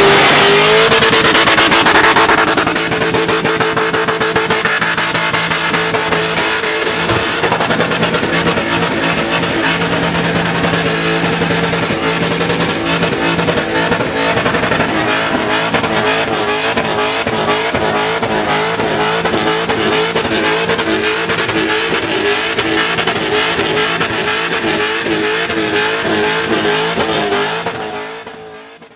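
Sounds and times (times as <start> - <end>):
engine at high revs: 0.0 - 28.9.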